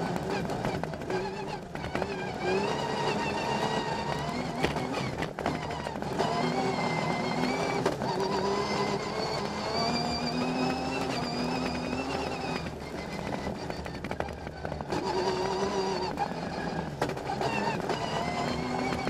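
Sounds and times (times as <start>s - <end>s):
rally car engine: 0.0s - 19.0s.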